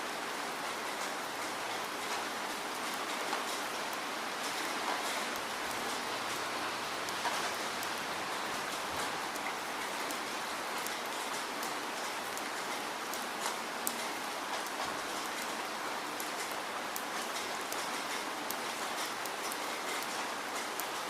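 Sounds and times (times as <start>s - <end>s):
steady rainfall hiss: 0.0s - 21.0s
raindrops ticking: 1.0s - 21.0s.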